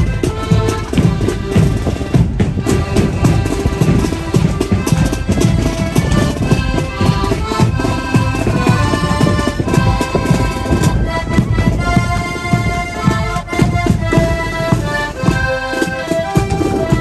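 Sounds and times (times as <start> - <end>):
accordion chords: 0.0 - 17.0
steady drum beat: 0.0 - 17.0.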